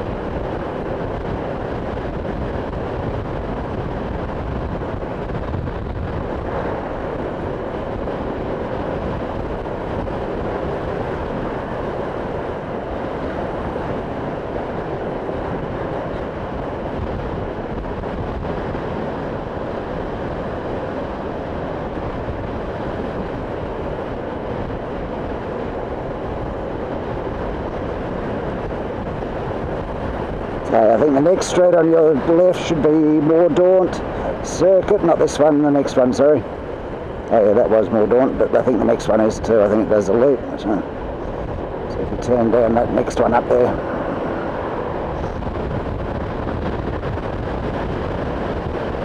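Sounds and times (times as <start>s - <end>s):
road noise: 0.0s - 49.0s
wind rushing over microphone: 0.0s - 49.0s.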